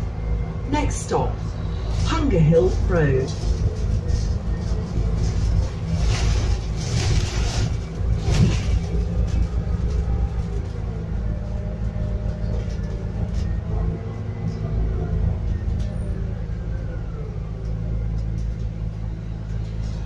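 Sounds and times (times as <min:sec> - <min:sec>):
bus engine low rumble: 0:00.0 - 0:20.0.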